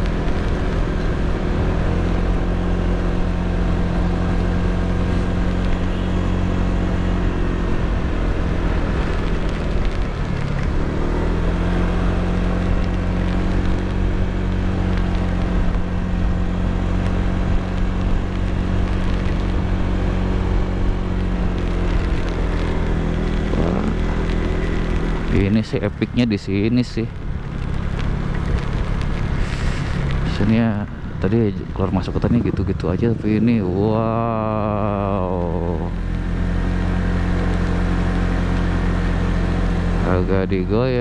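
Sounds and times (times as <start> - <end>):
motorcycle engine running: 0.0 - 41.0
wind and road noise: 0.0 - 41.0.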